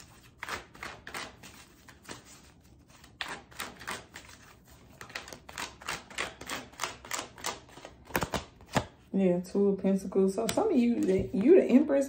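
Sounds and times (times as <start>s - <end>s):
cards being flipped: 0.0s - 9.0s, 10.5s - 11.6s.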